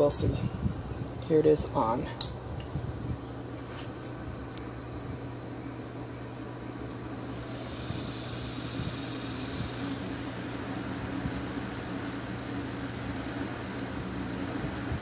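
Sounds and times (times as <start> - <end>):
fan air rushing: 0.0 - 15.0
table fan motor hum: 0.0 - 15.0.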